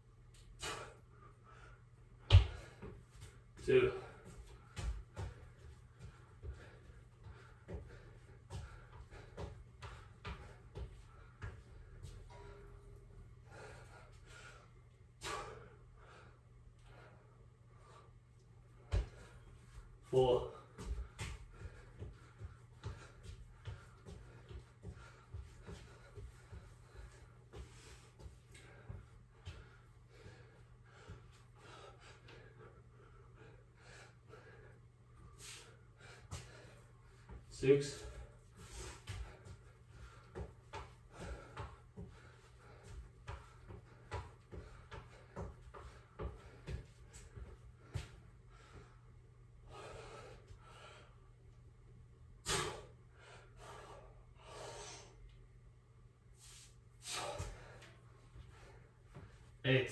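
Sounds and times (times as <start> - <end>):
man breathing heavily: 0.3 - 55.6, 56.2 - 59.9.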